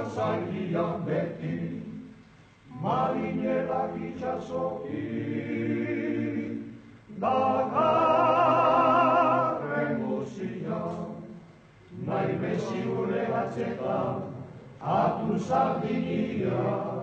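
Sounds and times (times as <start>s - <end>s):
men singing in harmony: 0.0s - 2.0s, 2.7s - 11.4s, 12.0s - 17.0s.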